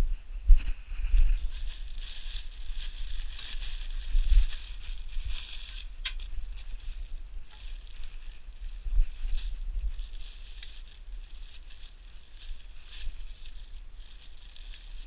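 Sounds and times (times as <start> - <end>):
wind rumble on microphone: 0.0 - 15.0
plastic wrapping crinkling: 1.4 - 15.0.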